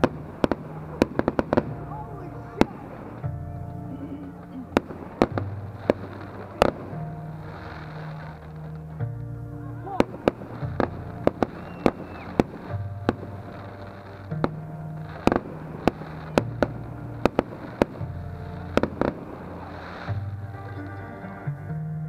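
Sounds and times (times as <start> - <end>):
fireworks bursting with sharp bangs: 0.0 - 21.7.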